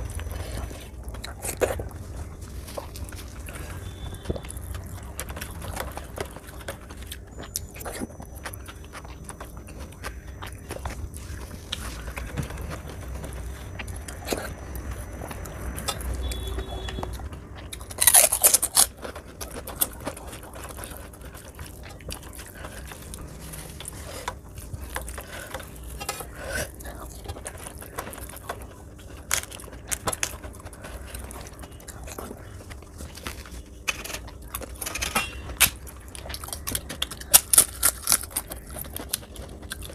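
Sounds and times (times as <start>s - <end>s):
wet chewing and mouth smacks: 0.0s - 34.8s, 35.4s - 39.9s.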